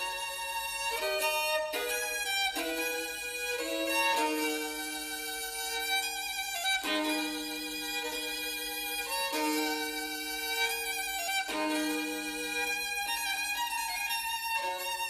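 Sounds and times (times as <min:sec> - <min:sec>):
violin playing slow melody: 0:00.0 - 0:15.0.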